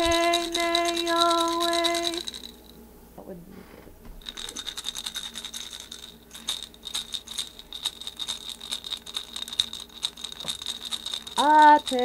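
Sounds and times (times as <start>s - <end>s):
hand rattle shaken rhythmically: 0.0s - 2.8s, 4.2s - 12.0s.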